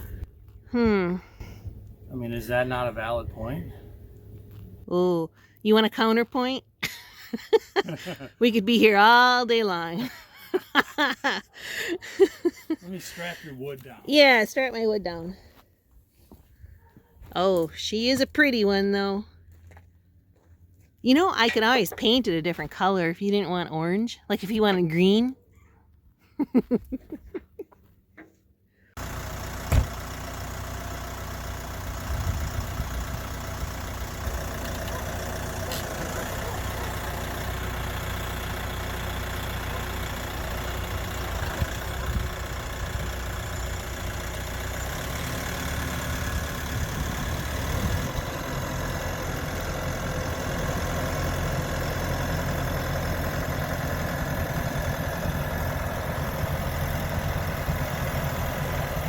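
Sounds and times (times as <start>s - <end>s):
tractor diesel engine running: 0.0s - 25.4s, 27.8s - 59.0s.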